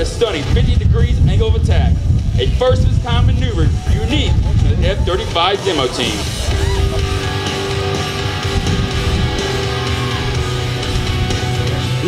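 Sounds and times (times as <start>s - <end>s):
rock music over loudspeakers: 0.0s - 12.0s.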